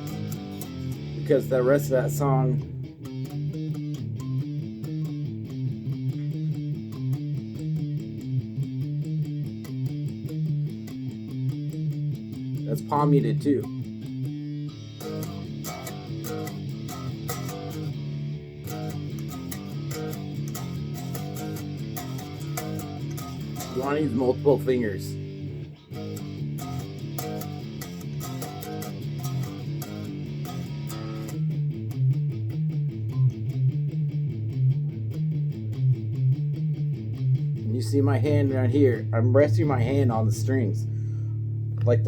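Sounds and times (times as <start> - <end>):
palm-muted guitar chugging: 0.0 - 42.0.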